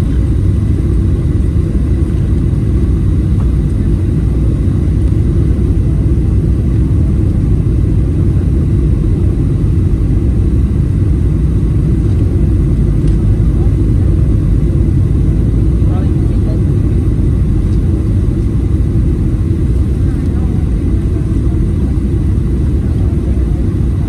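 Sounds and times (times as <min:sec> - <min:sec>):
jet engines rumbling in cabin: 0:00.0 - 0:24.0.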